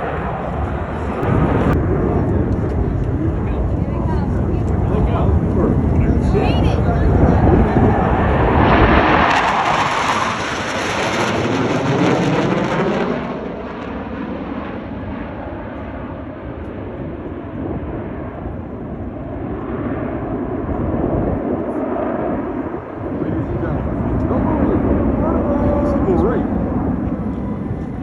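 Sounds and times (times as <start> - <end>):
jets roaring overhead: 0.0 - 28.0.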